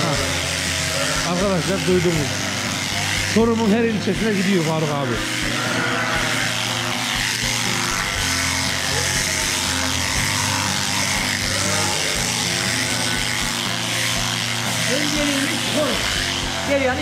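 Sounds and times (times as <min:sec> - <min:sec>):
electric shears buzzing: 0:00.0 - 0:17.0
music playing: 0:00.0 - 0:17.0.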